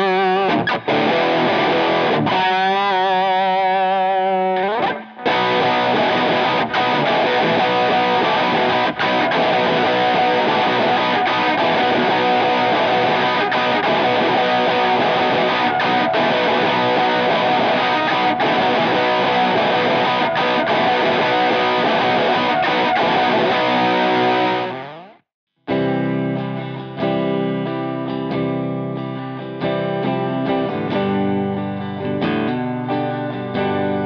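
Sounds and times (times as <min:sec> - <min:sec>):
distorted electric guitar: 0:00.0 - 0:34.0.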